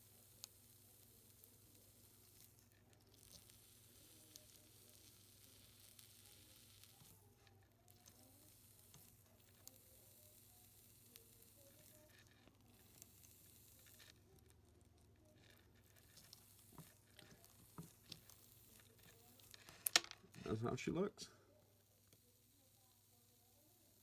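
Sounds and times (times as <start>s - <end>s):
faint fizzing of electrolyte: 0.0s - 20.6s.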